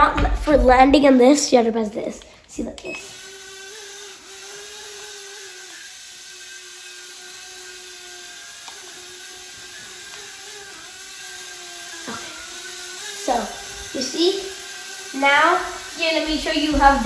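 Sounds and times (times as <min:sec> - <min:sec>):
drone propellers whining: 0:02.8 - 0:17.0.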